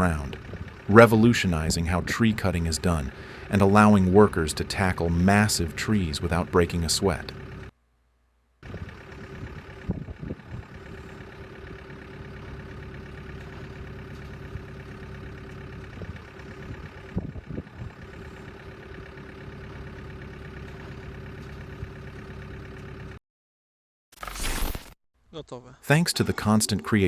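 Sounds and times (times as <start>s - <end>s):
machine engine idling: 0.0s - 7.7s, 8.6s - 23.2s.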